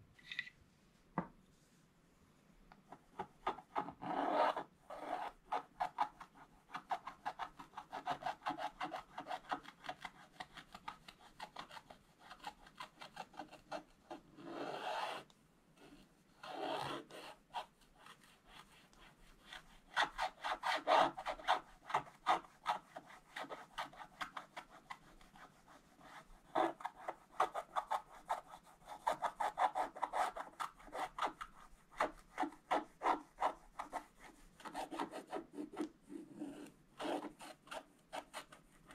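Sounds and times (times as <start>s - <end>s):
stylus scraping scratch-art paper: 3.4s - 38.9s.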